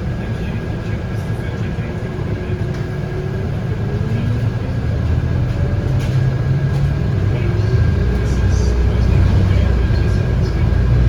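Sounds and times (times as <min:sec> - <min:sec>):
bus engine hum from inside: 0:00.0 - 0:11.0.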